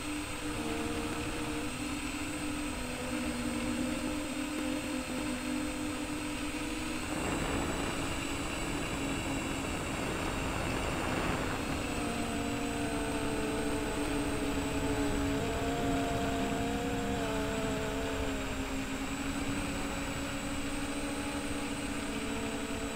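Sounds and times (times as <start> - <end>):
quadcopter motors whining: 0.0 - 22.9
wind noise on microphone: 0.0 - 22.9.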